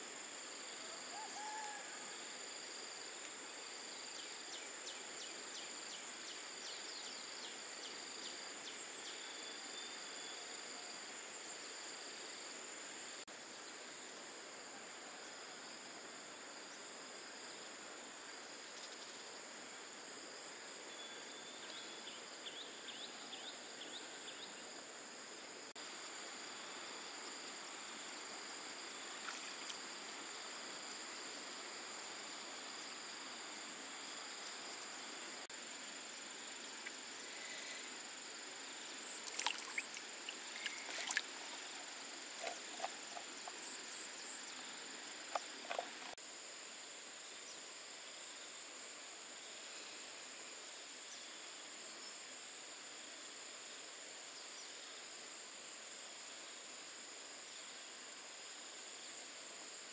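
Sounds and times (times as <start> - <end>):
insect chorus: 0.0 - 59.9
soft hiss: 0.0 - 59.9.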